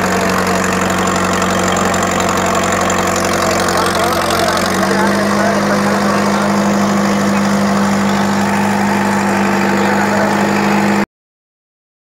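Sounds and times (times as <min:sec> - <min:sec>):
crowd noise: 0:00.0 - 0:11.0
tractor diesel engine running: 0:00.0 - 0:11.1.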